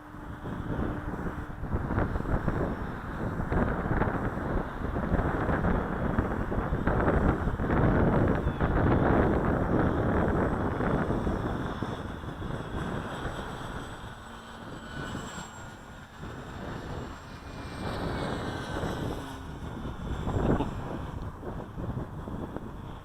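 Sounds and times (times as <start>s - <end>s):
model plane motor whine: 0.0s - 23.0s
wind buffeting microphone: 0.0s - 23.0s.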